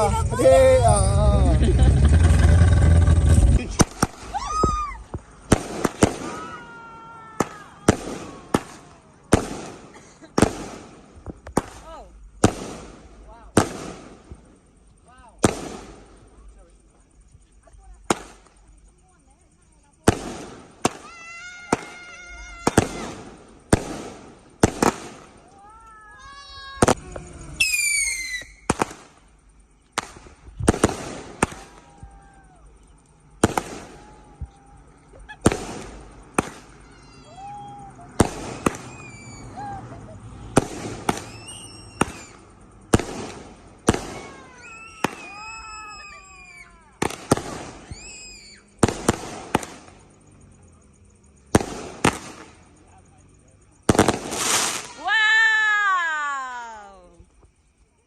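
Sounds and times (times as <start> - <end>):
fireworks whistling: 0.0 - 57.4
fireworks bangs: 0.0 - 57.6.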